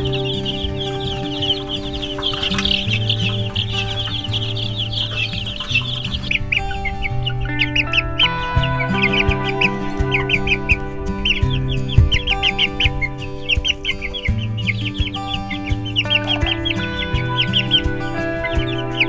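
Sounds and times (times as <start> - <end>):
baby chicks peeping: 0.0 - 19.0
background music with held notes: 0.0 - 19.0.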